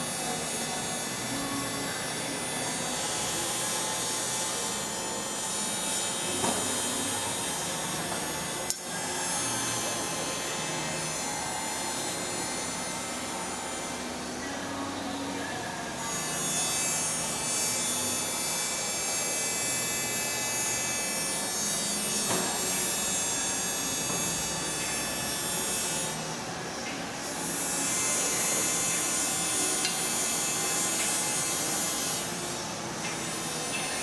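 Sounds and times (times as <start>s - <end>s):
hydraulic press whine and hum: 0.0s - 34.0s.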